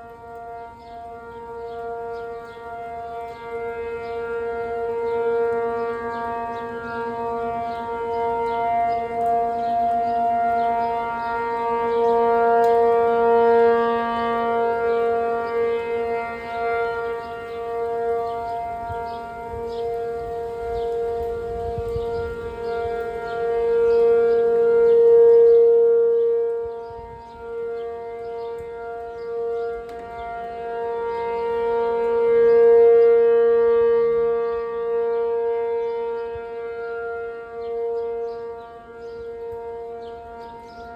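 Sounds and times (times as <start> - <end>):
steady warning siren tone: 0.0 - 40.9.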